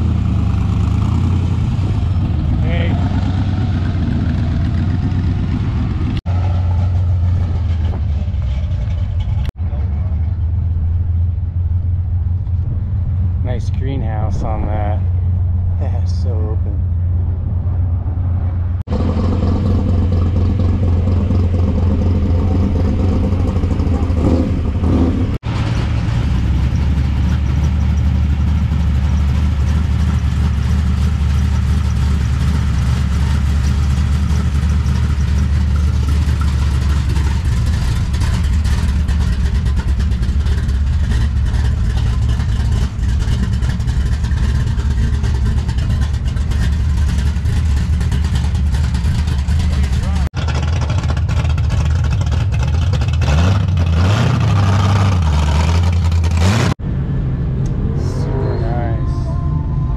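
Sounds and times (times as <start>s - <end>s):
vehicle engine running at low revs: 0.0s - 59.9s.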